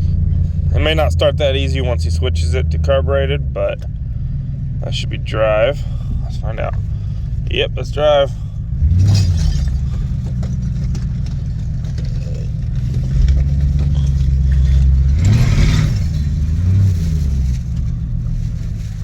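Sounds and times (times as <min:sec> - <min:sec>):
car engine running and revving: 0:00.0 - 0:19.0.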